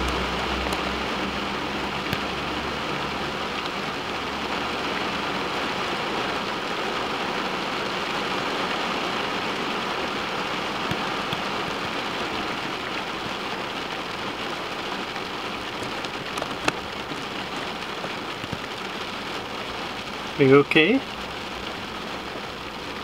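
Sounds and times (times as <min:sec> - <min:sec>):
rain on a car roof: 0:00.0 - 0:23.0.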